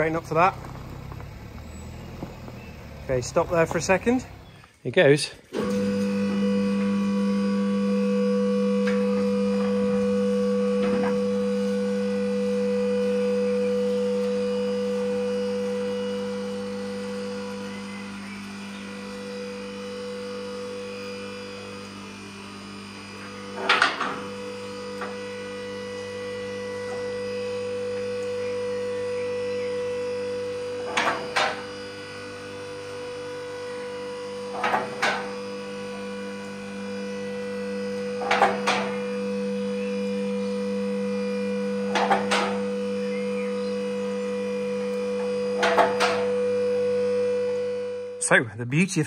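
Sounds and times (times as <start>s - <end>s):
electric power unit humming: 0.0s - 49.0s.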